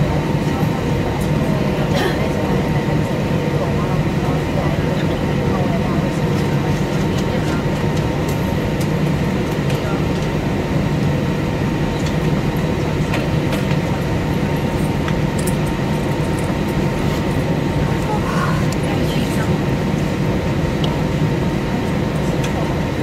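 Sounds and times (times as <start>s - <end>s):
aircraft cabin low hum: 0.0s - 23.0s.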